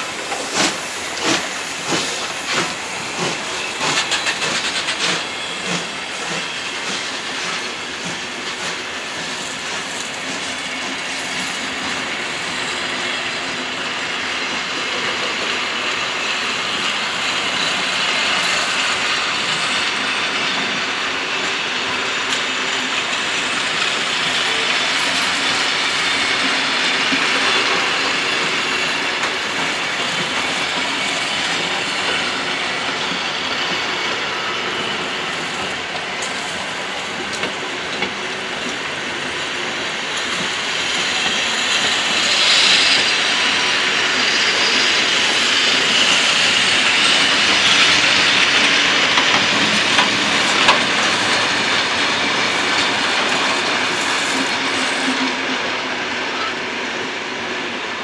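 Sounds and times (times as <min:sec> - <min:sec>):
train wheels rattling on rails: 0:00.0 - 0:58.0.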